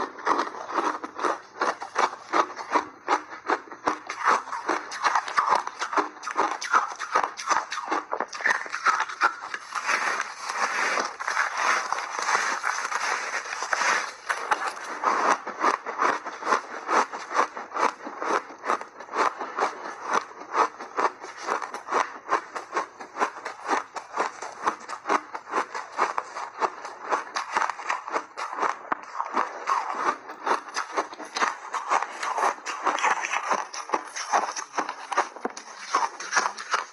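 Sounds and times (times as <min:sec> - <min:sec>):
crunching ice between teeth: 0:00.0 - 0:36.9.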